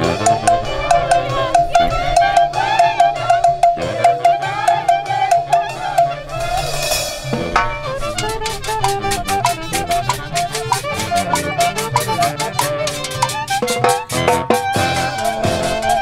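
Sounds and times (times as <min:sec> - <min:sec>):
folk band playing lively tune: 0:00.0 - 0:16.0.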